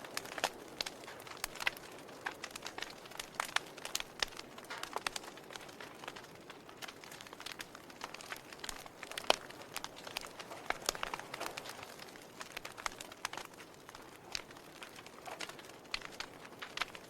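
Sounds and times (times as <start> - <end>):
soft steady fire hiss: 0.0 - 17.0
wood fire pops and snaps: 0.0 - 17.0.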